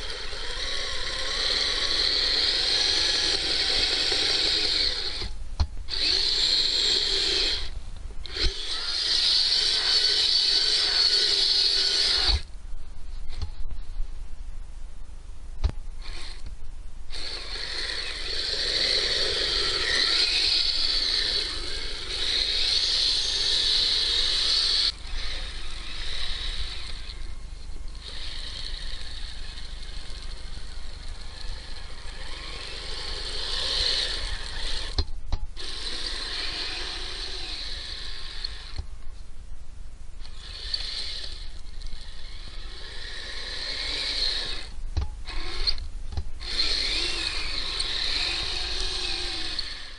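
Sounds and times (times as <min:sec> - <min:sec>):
electric drivetrain whining and rattling: 0:00.0 - 0:12.5, 0:17.1 - 0:38.9, 0:40.2 - 0:45.8, 0:46.4 - 0:49.9.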